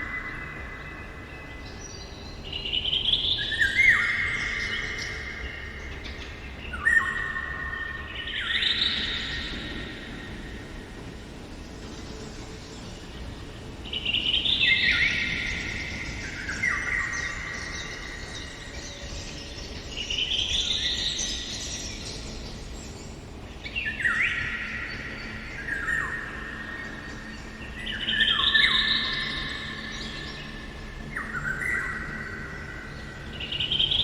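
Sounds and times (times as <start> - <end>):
songbird song phrase: 0.0 - 34.0.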